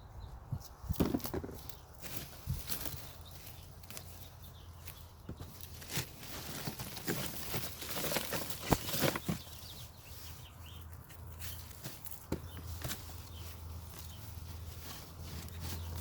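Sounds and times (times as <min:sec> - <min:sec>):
hands rummaging through soil: 0:00.6 - 0:16.0.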